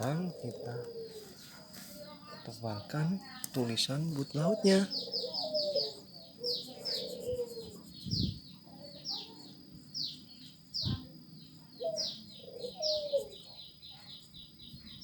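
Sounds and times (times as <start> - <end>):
bird cooing: 0.0 - 2.9, 4.2 - 15.0
high falling bird chirps: 0.0 - 15.0.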